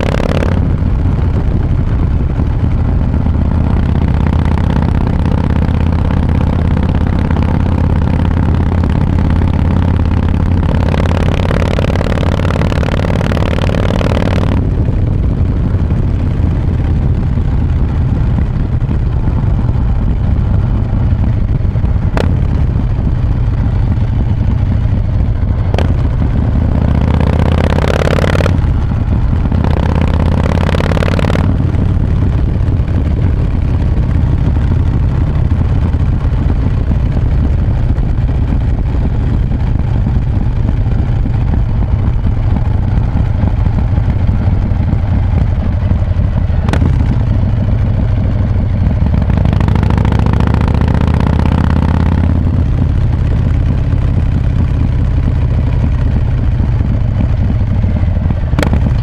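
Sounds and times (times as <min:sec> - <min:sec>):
motorcycle engine deep throb: 0:00.0 - 0:59.0.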